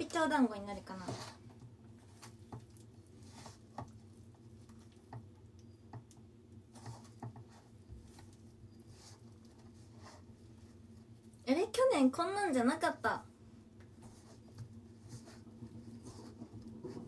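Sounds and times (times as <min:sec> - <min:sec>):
dough squishing in a bowl: 0:00.0 - 0:17.0.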